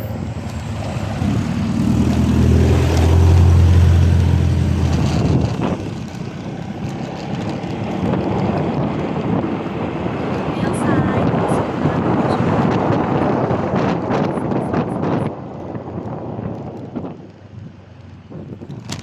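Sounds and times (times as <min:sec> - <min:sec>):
motor engine droning: 0:00.0 - 0:15.2
wind and road noise: 0:00.0 - 0:19.0.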